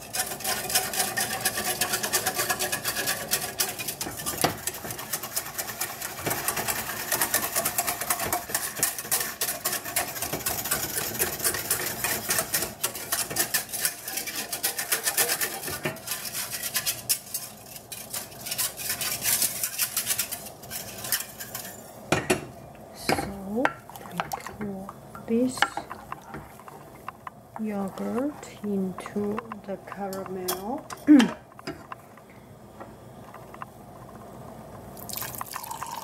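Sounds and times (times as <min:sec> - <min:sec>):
milk crackling and bubbling in saucepan: 0:00.0 - 0:36.0.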